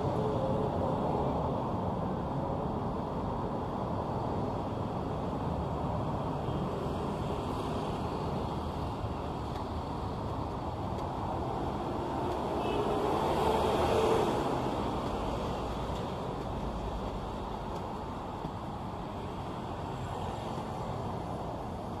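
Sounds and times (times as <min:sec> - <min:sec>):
passing vehicles: 0:00.0 - 0:22.0.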